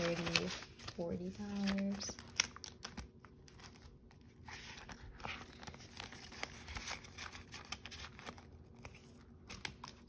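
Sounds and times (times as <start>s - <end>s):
paper bills rustling: 0.0s - 10.0s
plastic pouch crinkling: 0.0s - 10.0s.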